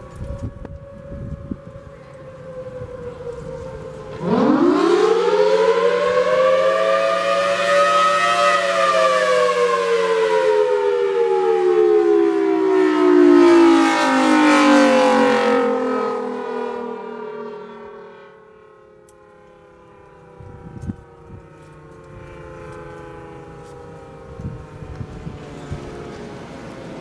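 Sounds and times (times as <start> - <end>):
outdoor warning siren wailing: 0.0 - 27.0.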